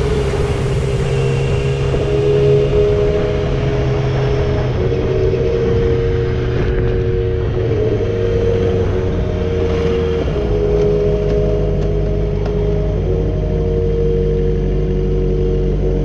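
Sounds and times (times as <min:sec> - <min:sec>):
wind rush on microphone: 0:00.0 - 0:13.6
motorcycle engine drone: 0:00.0 - 0:16.0.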